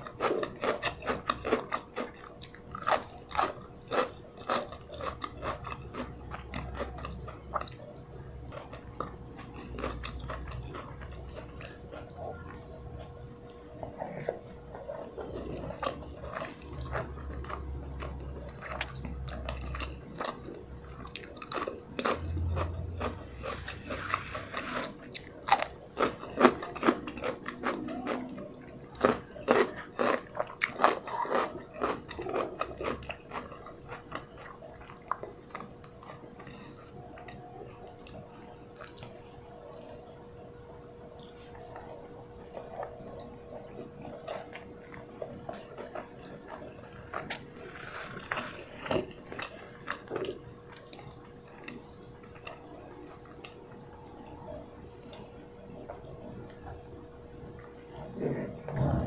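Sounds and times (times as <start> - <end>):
chewing with mouth clicks: 0.0 - 59.0
faint steady hum: 0.0 - 59.0.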